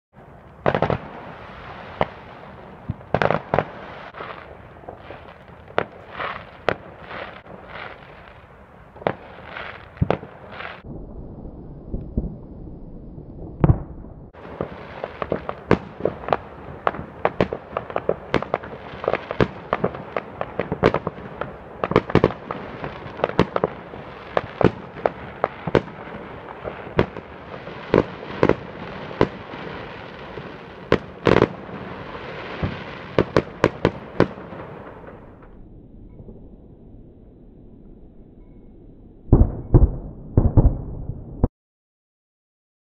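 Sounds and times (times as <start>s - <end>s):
fireworks bangs: 0.2s - 11.0s, 13.5s - 35.6s, 39.3s - 41.5s.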